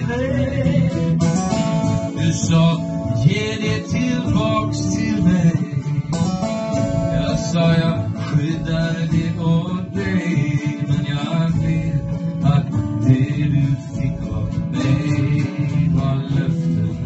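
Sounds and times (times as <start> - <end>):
acoustic guitars strummed: 0.0 - 17.0
man singing: 0.0 - 17.0
upright double bass: 0.0 - 17.0.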